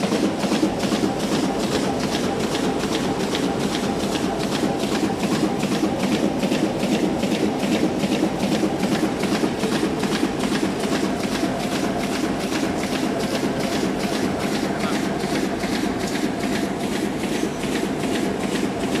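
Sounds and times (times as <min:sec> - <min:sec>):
fast even machine clatter: 0:00.0 - 0:19.0.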